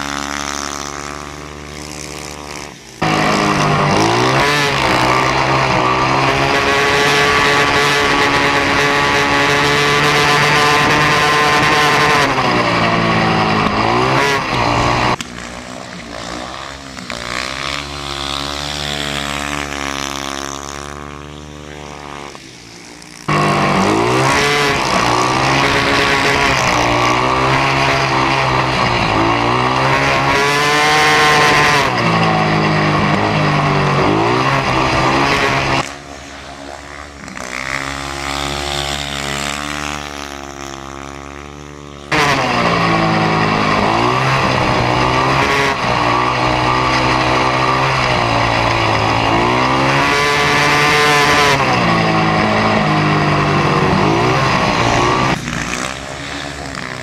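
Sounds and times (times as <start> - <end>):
distant motorbike engine from trackside: 0.0 - 57.0
motorbike engine racing up close: 0.0 - 57.0.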